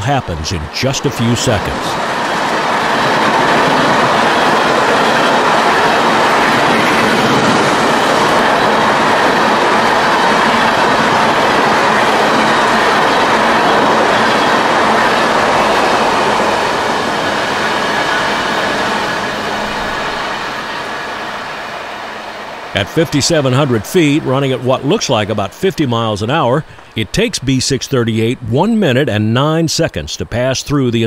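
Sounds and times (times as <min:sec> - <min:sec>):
freight train wheels on rails: 0:00.0 - 0:31.0.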